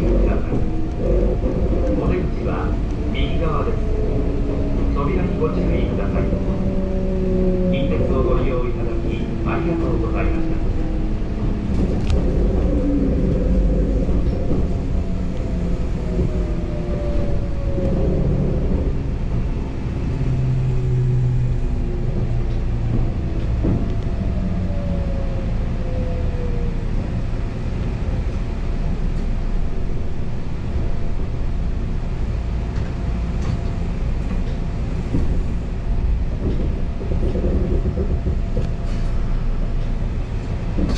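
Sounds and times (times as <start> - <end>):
train wheel and rail rumble: 0.0 - 40.9.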